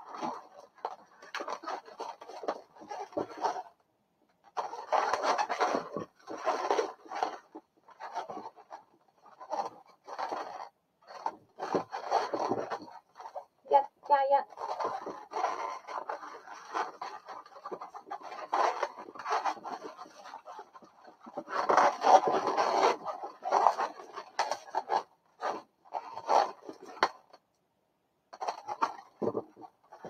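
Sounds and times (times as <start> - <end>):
balloons rubbing and squeaking: 0.0 - 3.8, 4.4 - 27.4, 28.4 - 30.0.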